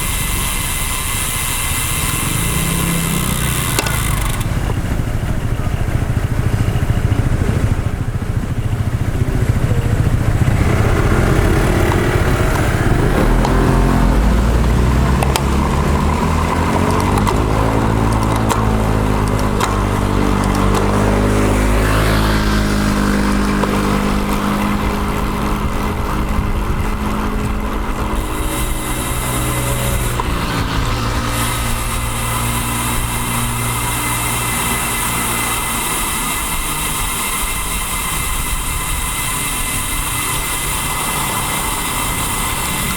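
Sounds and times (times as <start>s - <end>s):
motor vehicle engine revving: 0.0s - 42.9s
traffic rumble: 0.0s - 42.9s.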